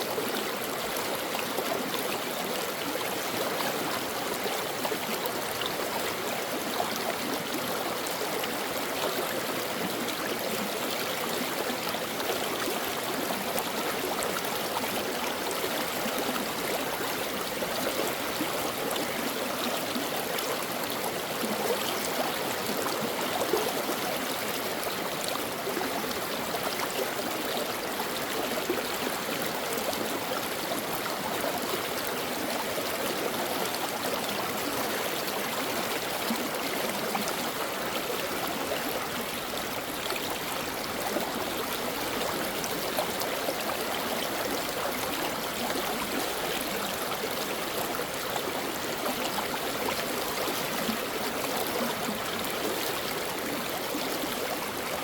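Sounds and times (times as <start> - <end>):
brook water flowing: 0.0 - 55.0.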